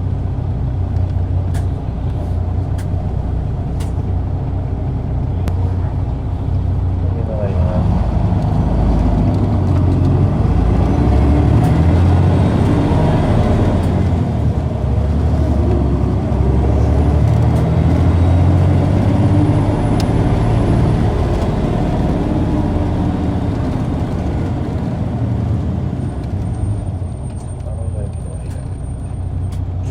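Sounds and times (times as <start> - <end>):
bus diesel engine from inside: 0.0 - 29.9.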